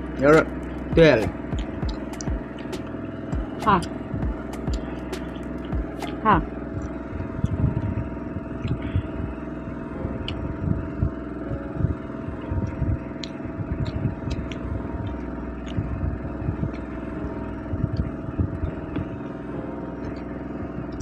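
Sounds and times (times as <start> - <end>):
chewing and eating by hand: 0.0 - 21.0
steady background hum: 0.0 - 21.0.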